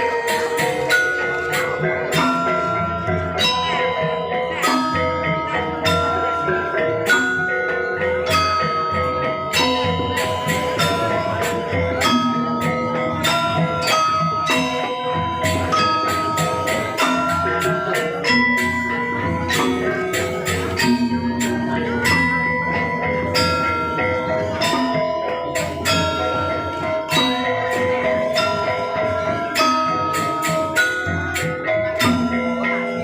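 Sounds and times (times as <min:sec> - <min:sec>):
metallophones ringing notes: 0:00.0 - 0:33.0.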